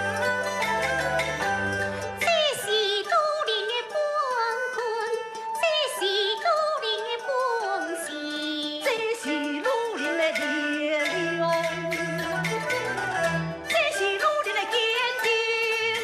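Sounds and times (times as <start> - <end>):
instrumental accompaniment: 0.0 - 16.0
opera singing with vibrato: 2.1 - 13.0, 13.6 - 16.0.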